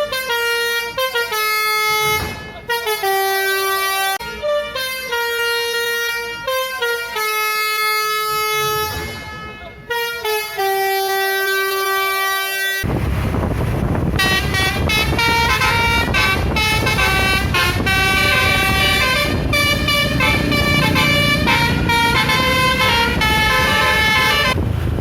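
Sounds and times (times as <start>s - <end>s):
musical air horn playing a tune: 0.0s - 12.8s, 14.2s - 24.6s
bus engine and road noise rumbling: 0.0s - 25.0s.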